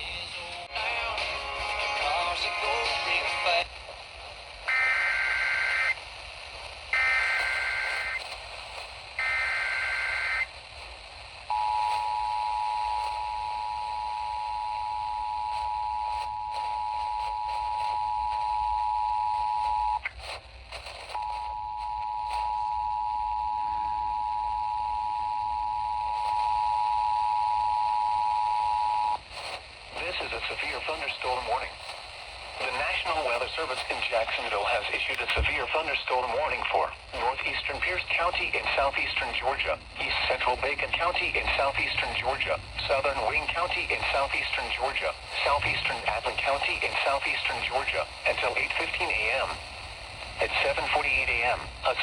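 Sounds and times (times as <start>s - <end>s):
radio hiss: 0.0s - 24.2s, 25.9s - 52.0s.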